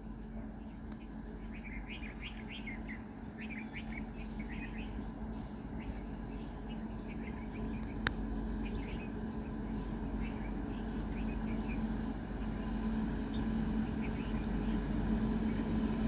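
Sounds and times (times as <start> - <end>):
electric train rumbling: 0.0 - 16.0
small birds chirping: 0.2 - 15.8.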